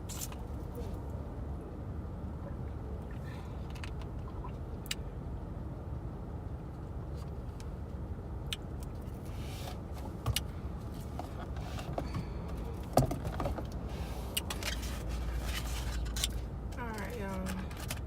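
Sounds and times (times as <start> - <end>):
low rumble in car cabin: 0.0 - 18.0.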